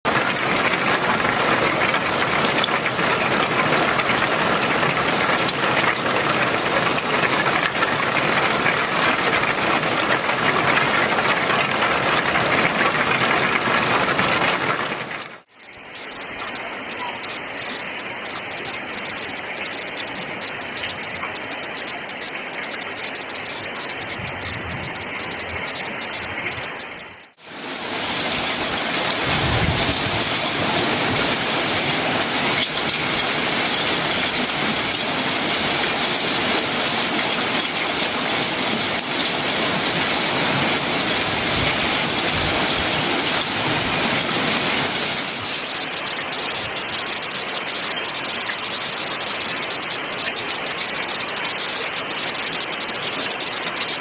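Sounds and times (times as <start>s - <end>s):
heavy rain pouring onto roofs: 0.1s - 15.5s, 16.1s - 54.0s
rain on a metal roof: 0.1s - 54.0s.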